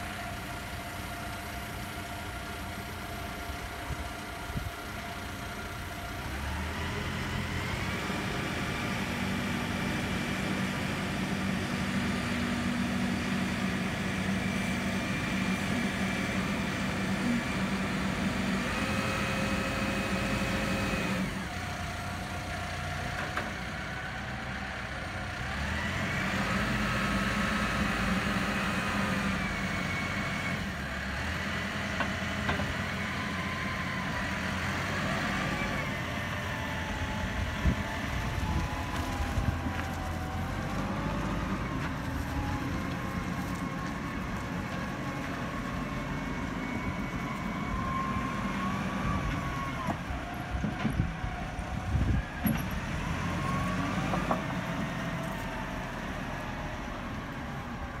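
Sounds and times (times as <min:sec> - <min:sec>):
diesel engine revving: 0:04.5 - 0:58.0.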